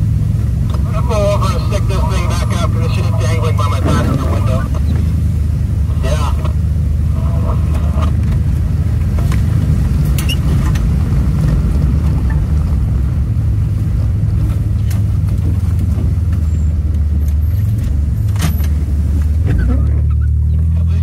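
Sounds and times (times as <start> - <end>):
minivan engine and tyres droning: 0.0 - 21.0.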